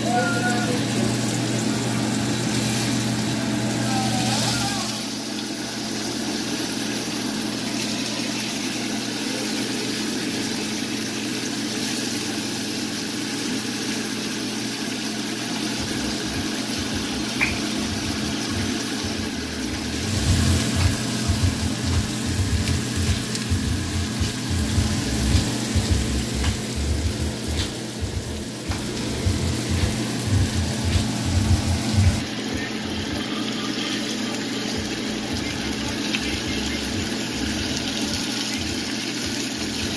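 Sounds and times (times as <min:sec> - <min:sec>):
fish sizzling in oil: 0:00.0 - 0:39.9.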